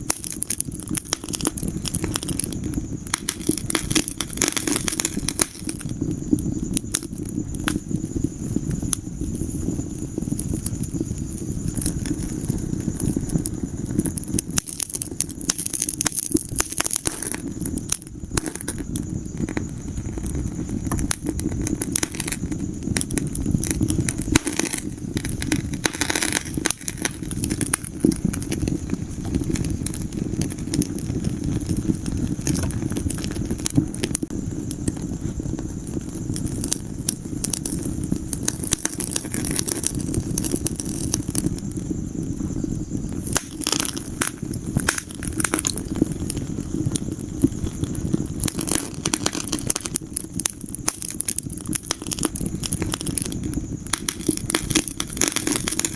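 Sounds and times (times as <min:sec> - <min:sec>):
fire burning in fireplace: 0:00.0 - 0:55.9
logs crackling and popping: 0:00.0 - 0:55.9.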